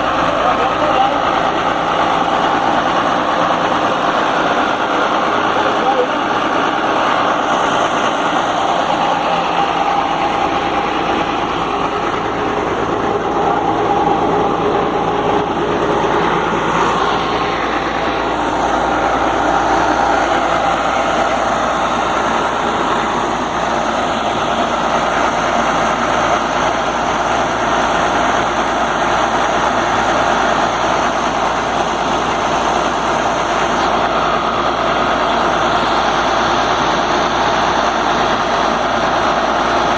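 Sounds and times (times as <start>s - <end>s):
diesel air compressor running: 0.0s - 39.9s.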